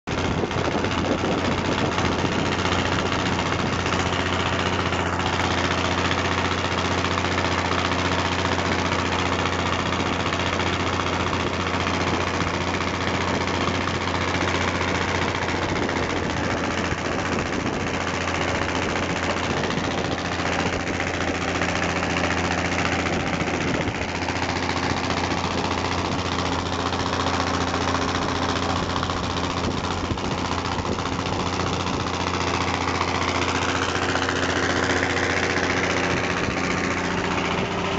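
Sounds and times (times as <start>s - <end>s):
motorboat engine hum: 0.0s - 37.9s.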